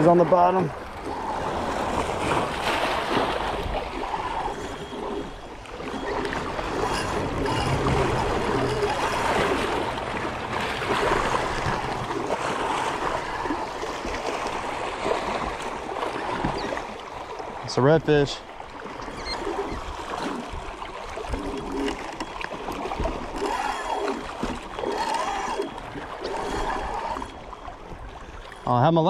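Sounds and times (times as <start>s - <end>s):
small waves lapping against rocks: 0.0s - 29.0s.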